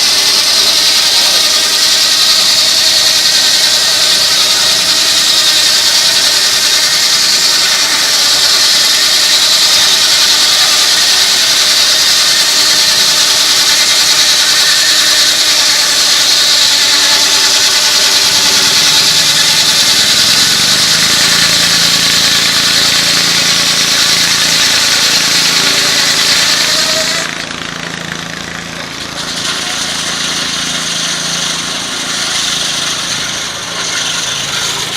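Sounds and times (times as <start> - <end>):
steam sawmill running: 0.0 - 34.9.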